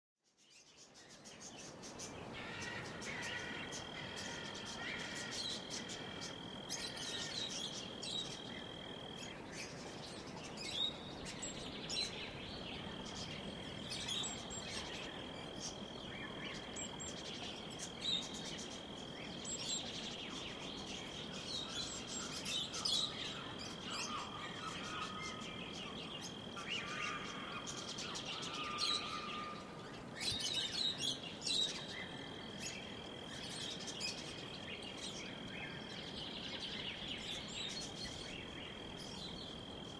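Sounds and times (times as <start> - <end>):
birds chirping: 0.5 - 39.9.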